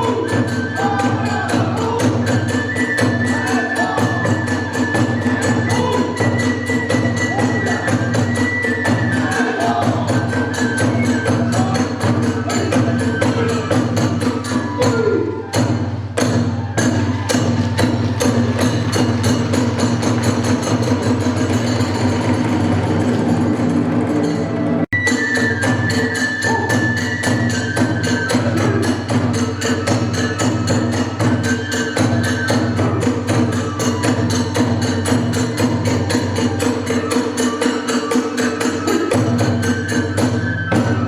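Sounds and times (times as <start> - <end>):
high flute melody: 0.0 - 23.4, 24.6 - 41.0
drums beating fast: 0.0 - 41.0
hand cymbals: 0.0 - 41.0.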